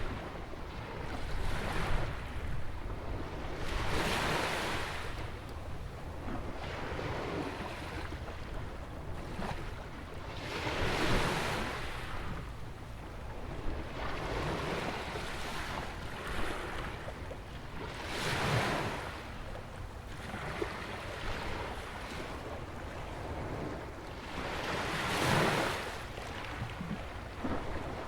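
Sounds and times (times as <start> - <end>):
ocean waves breaking on sand: 0.0 - 12.6, 13.4 - 28.0.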